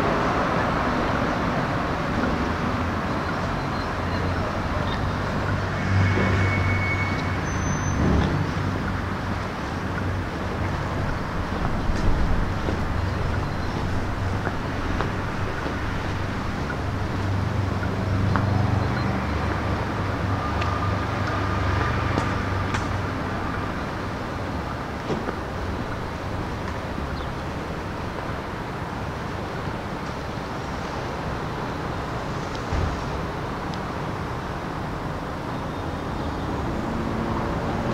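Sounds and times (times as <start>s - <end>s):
road noise: 0.0s - 37.9s
vehicle engine hum: 0.0s - 37.9s.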